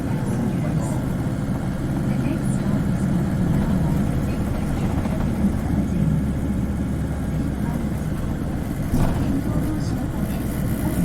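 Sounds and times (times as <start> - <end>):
bus diesel engine drone: 0.0 - 11.0.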